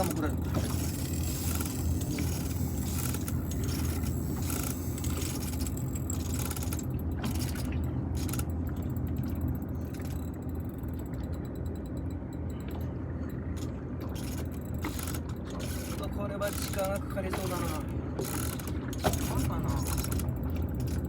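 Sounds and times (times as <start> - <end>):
fishing reel clicking and scraping: 0.0 - 12.9, 13.6 - 21.0
boat engine humming: 0.0 - 21.0.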